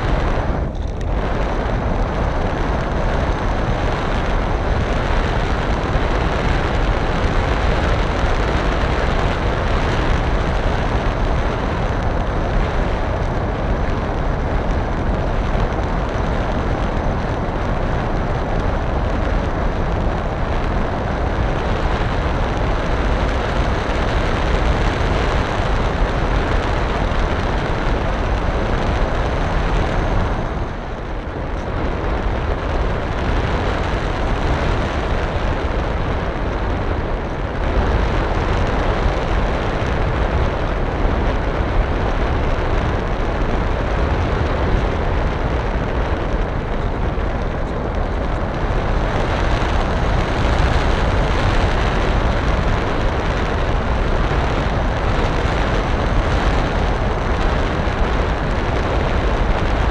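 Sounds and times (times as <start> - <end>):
wind rush: 0.0 - 59.9.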